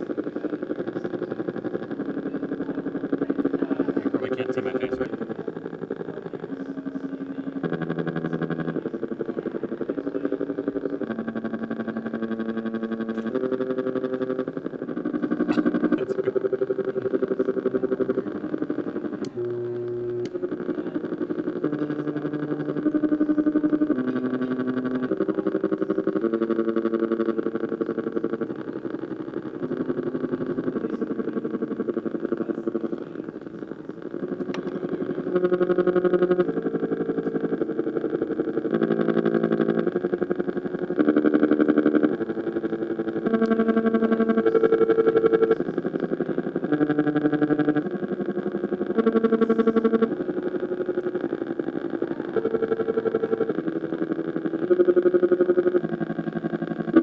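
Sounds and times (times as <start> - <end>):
buzzy electronic tones: 0.0 - 57.0.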